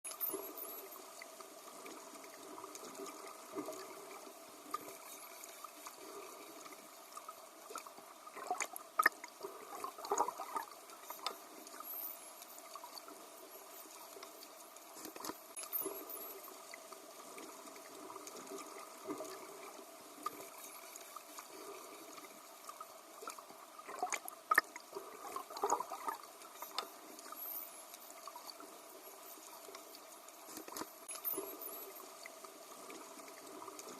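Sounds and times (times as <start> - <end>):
water sloshing and bubbling: 0.1 - 33.9.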